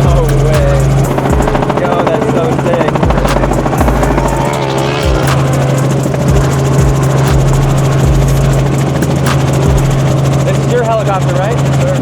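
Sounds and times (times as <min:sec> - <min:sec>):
helicopter engine drone: 0:00.0 - 0:12.0
helicopter rotor thuds: 0:00.0 - 0:12.0.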